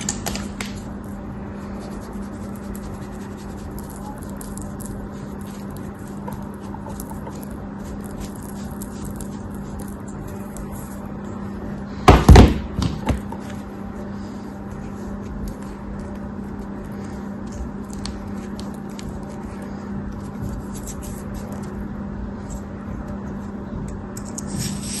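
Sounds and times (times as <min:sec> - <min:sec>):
crunchy crackling material: 0:00.0 - 0:12.1, 0:13.3 - 0:25.0
steady low hum: 0:00.0 - 0:25.0.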